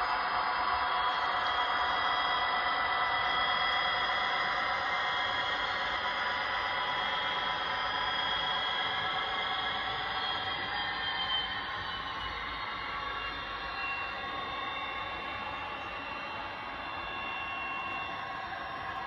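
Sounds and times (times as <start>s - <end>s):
diesel engine drone through small speaker: 0.0s - 19.0s
high whine: 0.0s - 19.0s.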